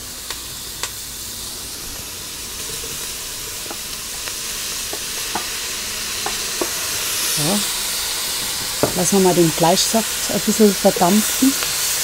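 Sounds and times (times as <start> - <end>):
meat and onions sizzling: 0.0 - 12.0.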